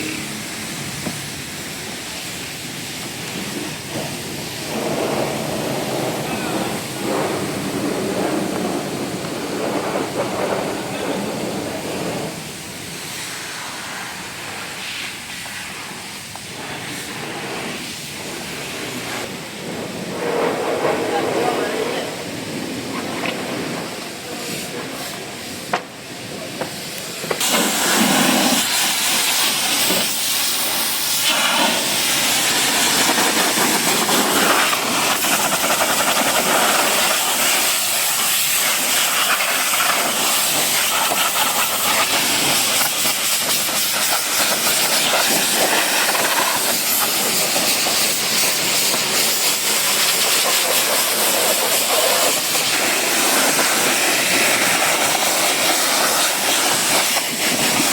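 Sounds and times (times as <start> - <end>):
high-pressure water jet hissing: 0.0 - 57.9.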